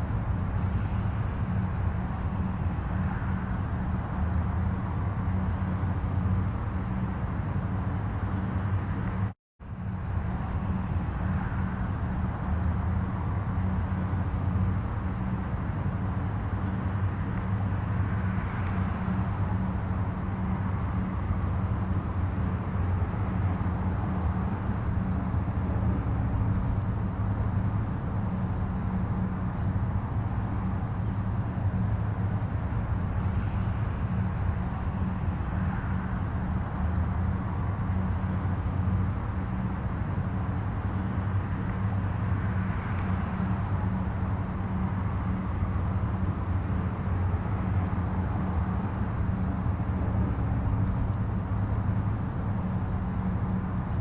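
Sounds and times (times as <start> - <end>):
distant highway traffic rumble: 0.0 - 54.0
vehicles passing: 0.0 - 54.0.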